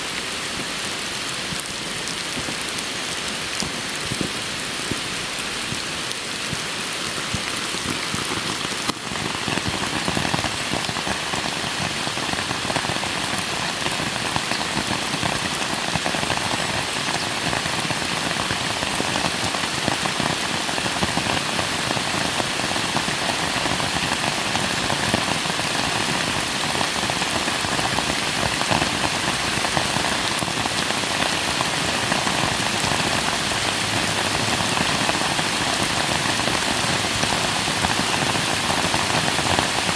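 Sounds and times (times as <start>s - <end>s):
raindrops striking surfaces: 0.0s - 39.9s
steady rain falling: 0.0s - 39.9s.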